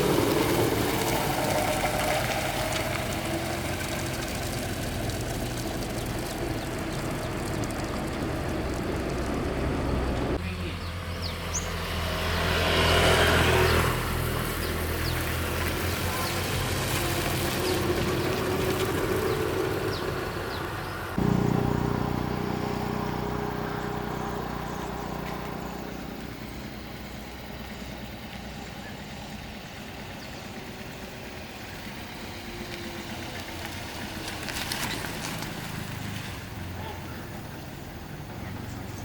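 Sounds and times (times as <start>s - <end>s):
engine running: 0.0s - 39.0s.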